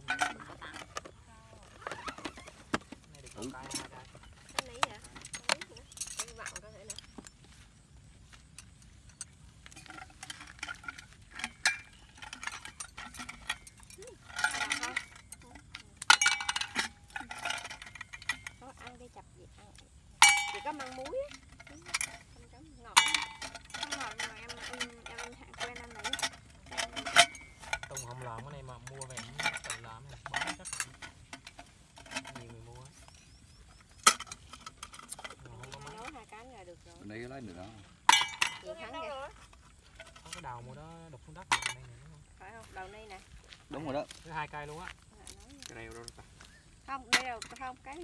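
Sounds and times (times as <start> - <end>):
cookware and utensils clinking: 0.0 - 7.6, 8.3 - 48.0.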